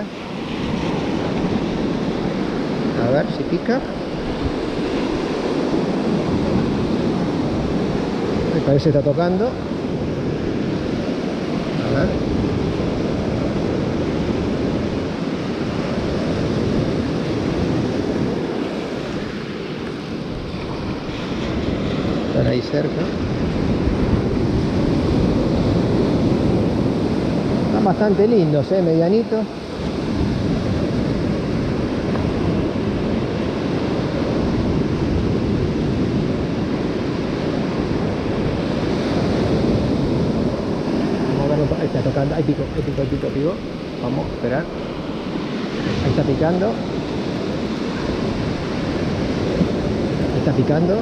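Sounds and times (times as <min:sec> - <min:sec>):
ocean surf breaking on beach: 0:00.0 - 0:51.0
wind buffeting microphone: 0:00.0 - 0:51.0.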